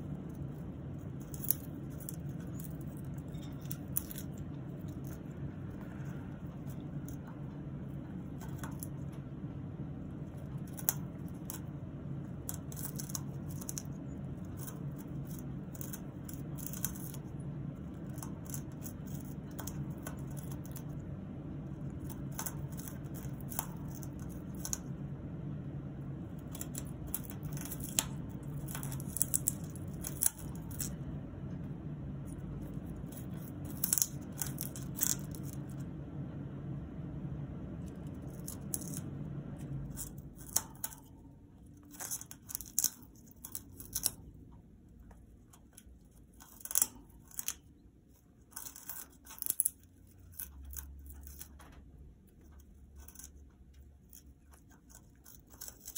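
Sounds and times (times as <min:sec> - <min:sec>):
parrot gnawing wood: 0:00.0 - 0:35.9, 0:37.8 - 0:55.9
steady low hum: 0:00.0 - 0:55.9.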